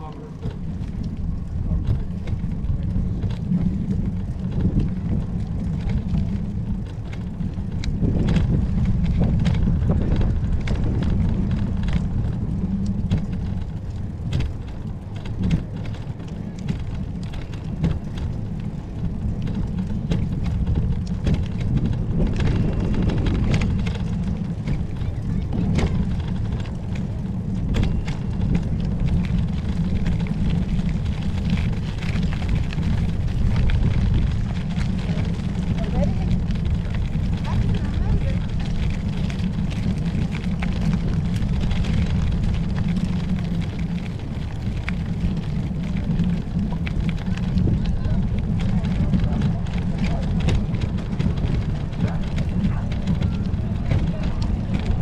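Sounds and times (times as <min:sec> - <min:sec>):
knocks and rattles: 0:00.0 - 0:55.0
wind buffeting microphone: 0:00.0 - 0:55.0.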